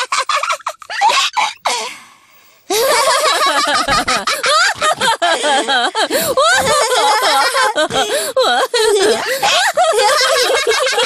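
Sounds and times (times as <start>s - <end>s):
cartoon characters laughing: 0.0s - 1.6s, 2.7s - 11.0s.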